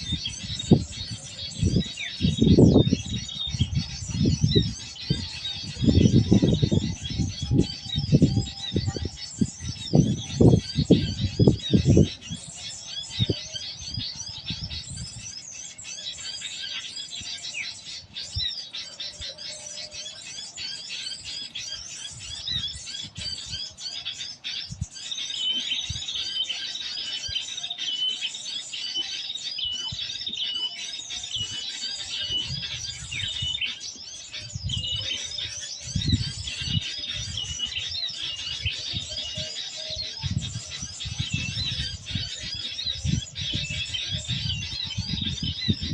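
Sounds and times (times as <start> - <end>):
recorded birdsong chirps and trills: 0.0 - 45.9.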